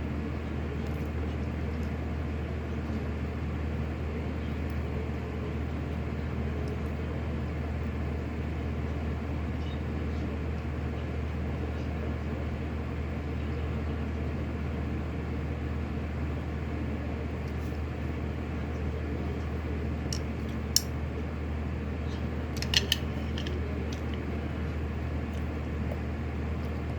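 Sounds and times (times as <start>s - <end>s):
electric fan running: 0.0s - 26.9s.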